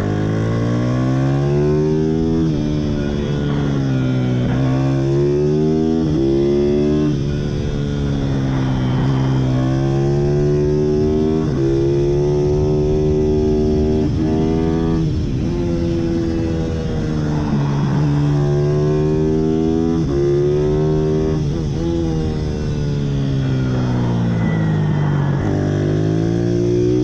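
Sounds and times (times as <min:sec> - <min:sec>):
small motorbike engine revving: 0:00.0 - 0:27.0.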